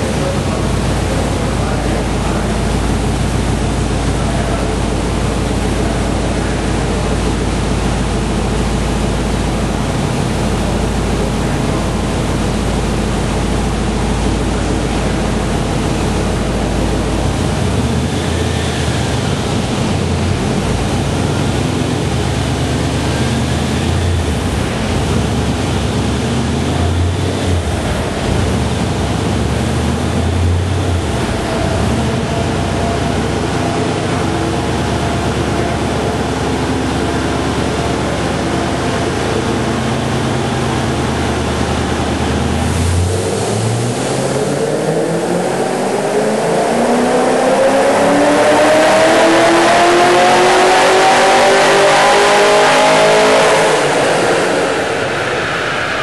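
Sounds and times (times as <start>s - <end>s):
car engine on dyno: 0.0s - 56.0s.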